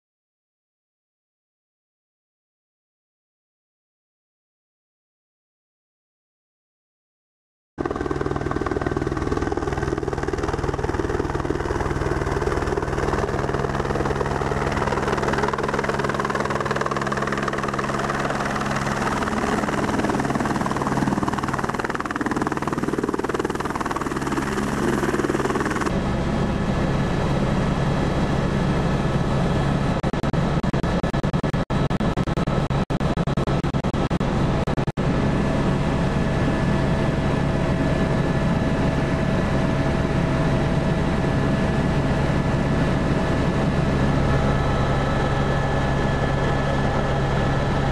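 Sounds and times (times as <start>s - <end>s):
helicopter cabin drone: 7.8s - 47.9s
helicopter flying overhead: 7.8s - 47.9s.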